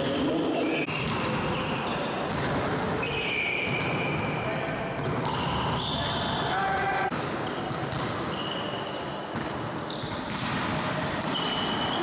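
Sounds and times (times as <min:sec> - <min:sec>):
shoes squeaking on court floor: 0:00.0 - 0:04.3, 0:05.0 - 0:06.6, 0:07.4 - 0:10.5, 0:11.2 - 0:12.0.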